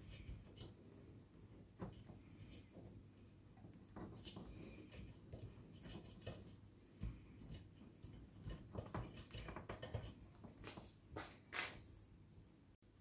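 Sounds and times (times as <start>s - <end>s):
tape rustling and clicking: 0.0s - 11.9s.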